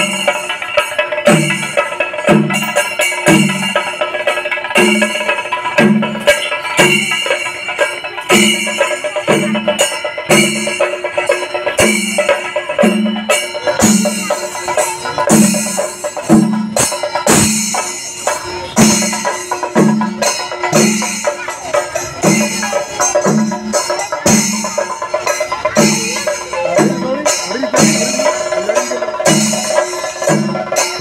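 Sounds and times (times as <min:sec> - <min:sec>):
brass cymbals clashing: 0:00.0 - 0:31.0
drums beating: 0:00.0 - 0:31.0.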